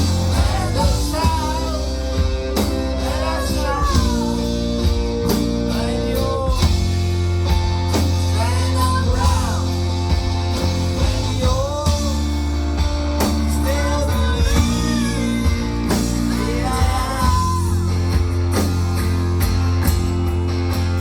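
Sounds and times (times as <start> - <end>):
live rock band music: 0.0 - 21.0.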